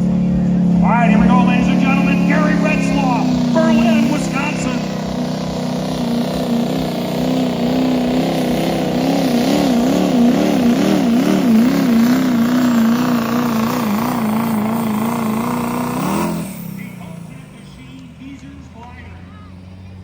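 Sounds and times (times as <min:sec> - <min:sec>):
diesel truck engine at high revs: 0:00.0 - 0:20.0.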